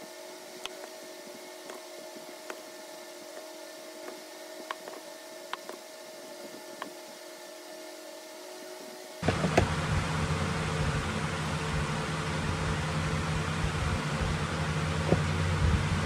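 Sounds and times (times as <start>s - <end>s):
faint constant tones: 0.0s - 16.0s
steady hum: 0.0s - 16.0s.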